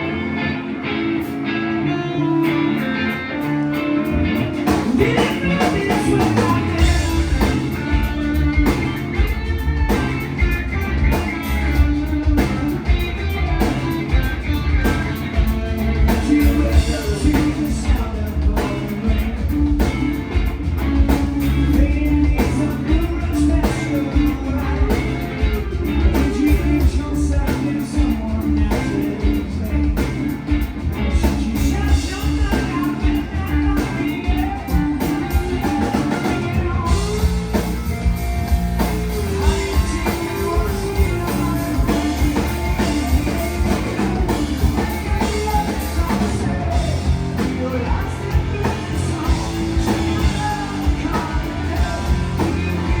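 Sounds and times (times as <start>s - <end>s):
bass guitar: 0.0s - 53.0s
electric guitars: 0.0s - 53.0s
lead vocal singing: 2.2s - 10.7s, 11.4s - 53.0s
drum kit: 2.4s - 53.0s.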